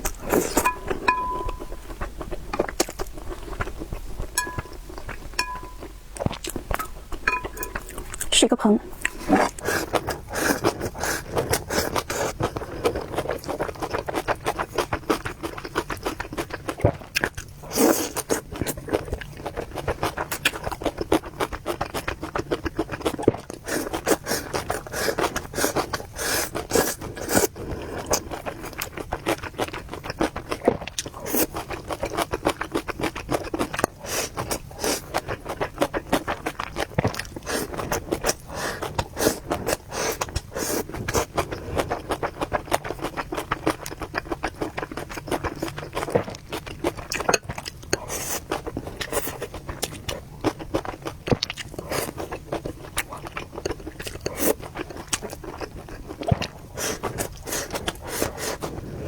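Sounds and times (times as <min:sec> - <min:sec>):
eating noodles: 0:00.0 - 0:59.0.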